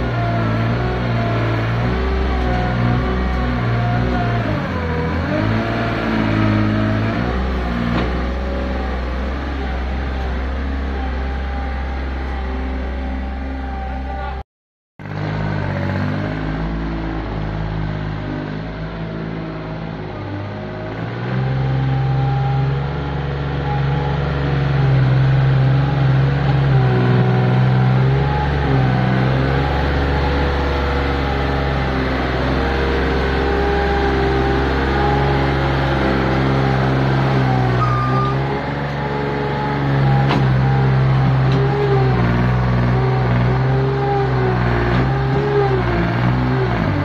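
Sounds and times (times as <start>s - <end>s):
skid steer engine running: 0.0s - 14.4s, 15.0s - 47.0s.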